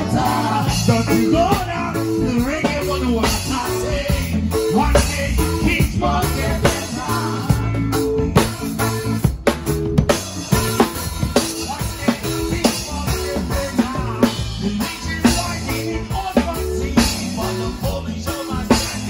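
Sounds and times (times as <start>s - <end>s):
live band playing ska-reggae: 0.0s - 19.0s.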